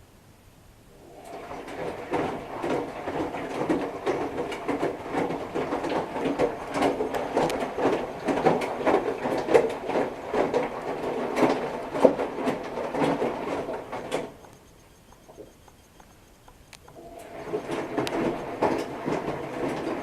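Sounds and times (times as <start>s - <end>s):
laundry and water sloshing: 0.9s - 15.5s, 16.9s - 20.0s
washing machine drum turning: 1.0s - 20.0s.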